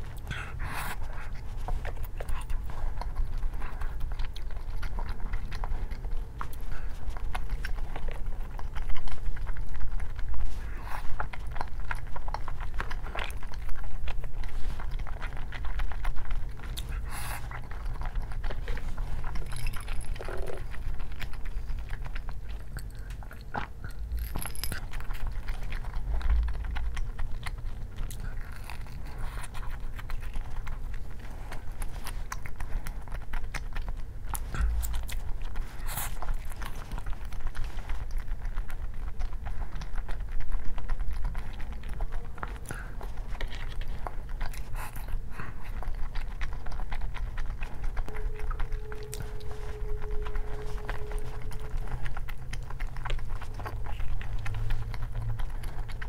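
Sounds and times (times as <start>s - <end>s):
person chewing: 0.0s - 56.0s
steady low hum: 0.0s - 56.0s.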